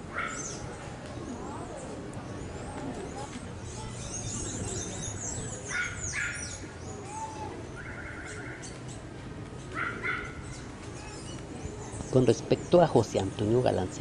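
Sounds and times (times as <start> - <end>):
birds calling: 0.0 - 14.0
low steady outdoor hum: 0.0 - 14.0.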